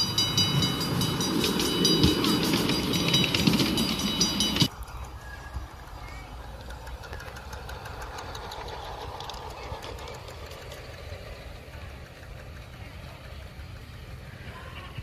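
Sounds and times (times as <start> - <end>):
model train rumbling on track: 0.0 - 15.0.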